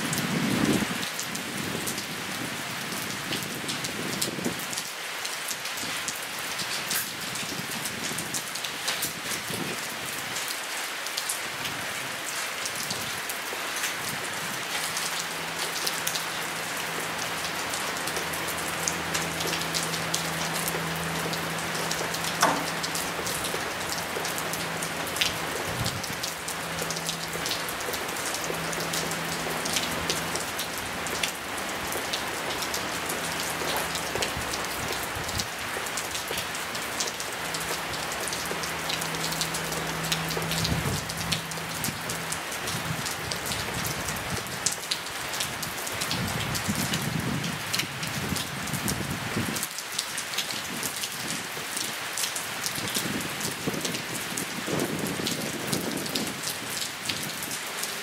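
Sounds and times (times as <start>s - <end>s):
rain falling on grass and puddles: 0.0s - 58.0s.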